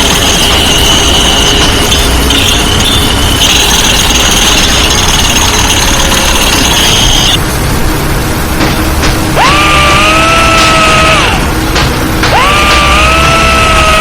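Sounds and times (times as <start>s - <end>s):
high-pitched squeal: 0.0s - 8.4s, 9.3s - 14.0s
diesel engine running: 0.0s - 14.0s.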